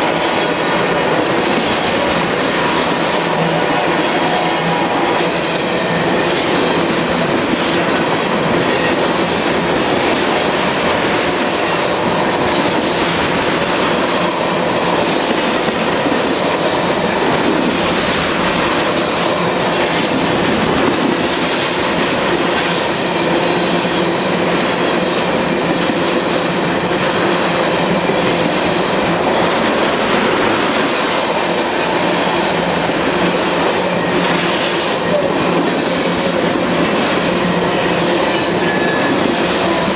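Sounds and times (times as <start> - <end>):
freight train cars rumbling past: 0.0 - 39.9.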